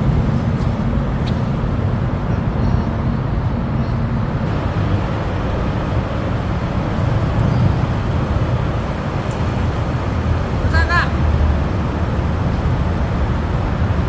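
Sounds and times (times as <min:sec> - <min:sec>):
urban ambience rumble: 0:00.0 - 0:14.0.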